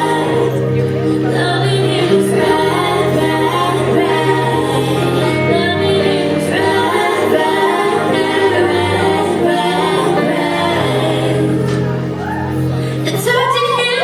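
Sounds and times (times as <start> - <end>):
women singing in harmony: 0.0 - 14.0.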